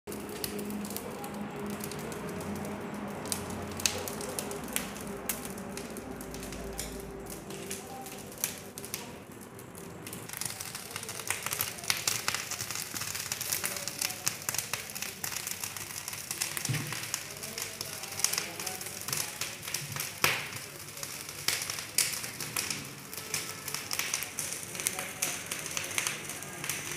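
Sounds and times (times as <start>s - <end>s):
fire crackling and popping: 0.1s - 26.9s.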